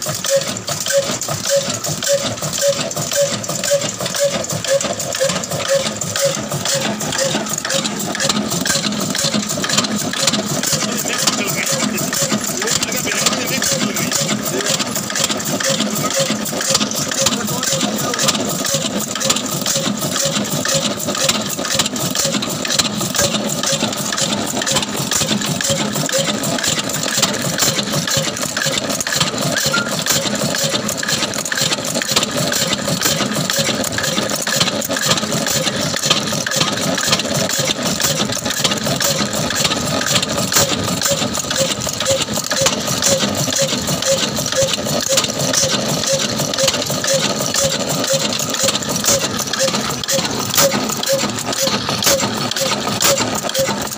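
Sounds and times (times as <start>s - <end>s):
stationary diesel engine running: 0.0s - 53.9s.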